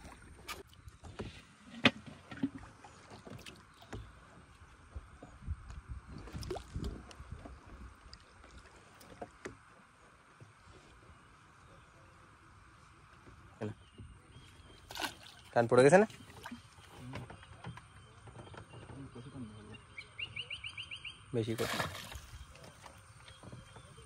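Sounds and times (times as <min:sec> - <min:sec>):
water sloshing against boat hull: 0:00.0 - 0:11.8, 0:12.7 - 0:20.0, 0:21.4 - 0:24.0.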